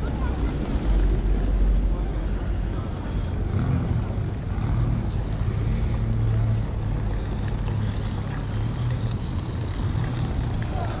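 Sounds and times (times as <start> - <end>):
low rumble of city traffic: 0.0 - 11.0
vehicle engine hum: 0.0 - 11.0.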